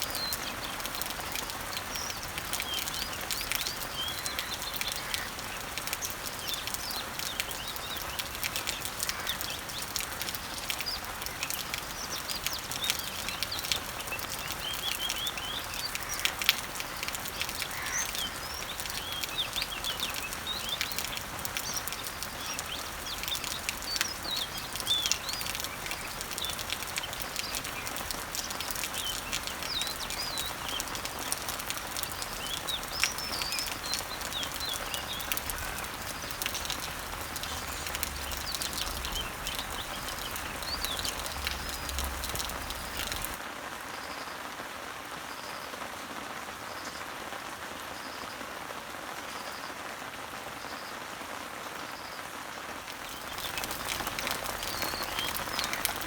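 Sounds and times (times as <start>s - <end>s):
birds chirping: 0.0s - 43.4s, 52.9s - 56.0s
rain falling on leaves: 0.0s - 56.0s.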